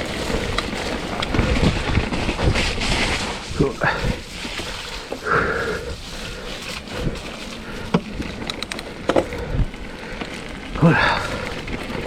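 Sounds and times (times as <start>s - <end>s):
bike clicks and rattles: 0.0s - 12.0s
bike tyres on snowy trail: 0.0s - 12.0s.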